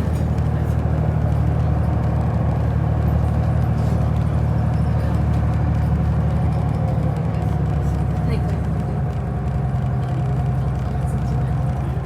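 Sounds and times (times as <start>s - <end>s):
road vehicle rumble: 0.0s - 12.0s.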